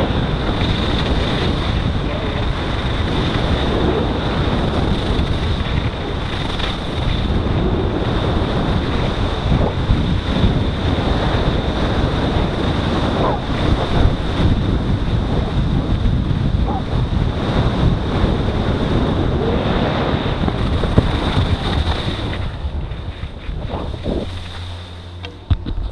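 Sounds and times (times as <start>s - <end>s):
skis rushing over snow: 0.0s - 25.1s
wind buffeting microphone: 0.0s - 25.9s.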